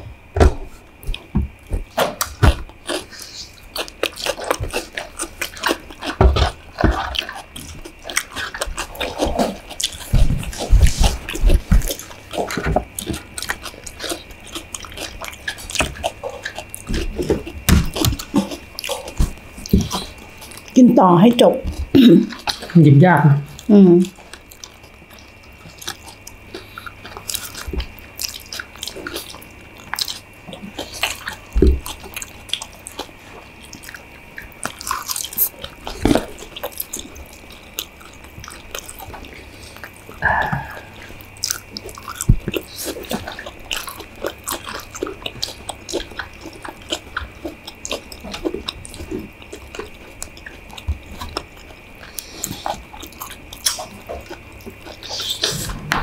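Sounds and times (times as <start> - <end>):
people chewing noodles: 0.0 - 22.8, 23.4 - 56.0.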